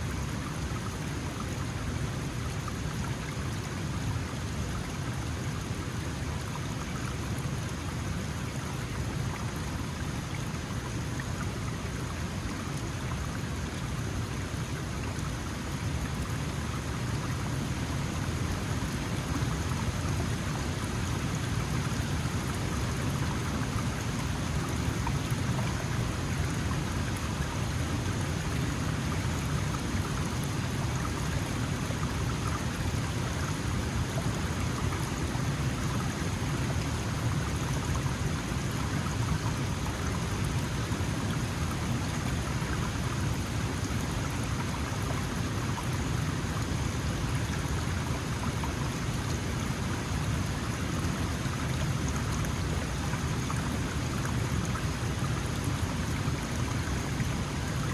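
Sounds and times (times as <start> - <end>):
stream flowing and babbling: 0.0 - 57.9.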